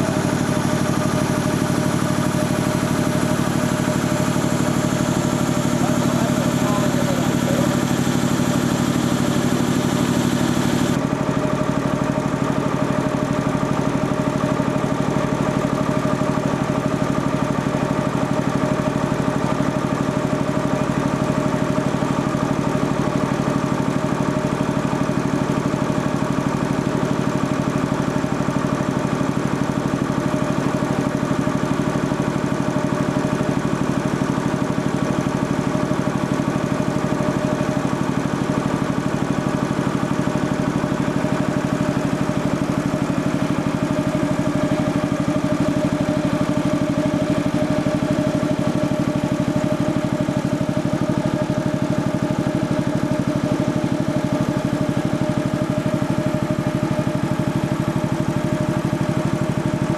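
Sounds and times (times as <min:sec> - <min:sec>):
air compressor pulsing: 0:00.0 - 0:59.9.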